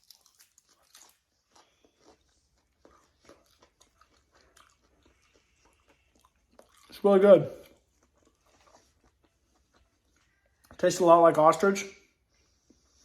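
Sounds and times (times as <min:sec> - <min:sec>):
person chewing food: 0:00.0 - 0:10.8, 0:12.1 - 0:13.0.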